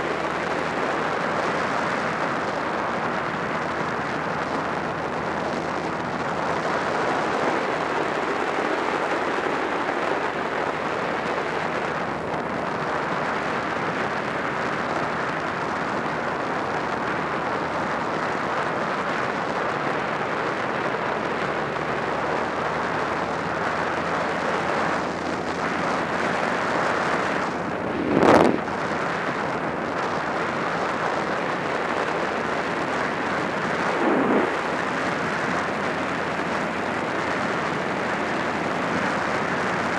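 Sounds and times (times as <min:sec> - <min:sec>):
motorcycle engine and road noise: 0:00.0 - 0:39.9
wind rush on microphone: 0:00.0 - 0:39.9.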